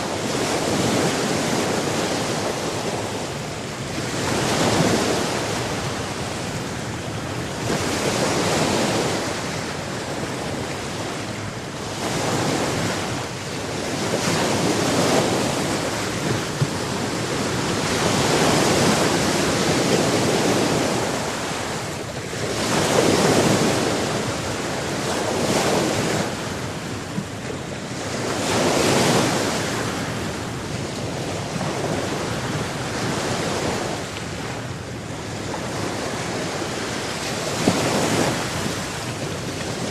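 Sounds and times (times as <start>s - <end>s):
sea waves washing onto shore: 0.0s - 39.9s
wind on microphone: 0.0s - 39.9s.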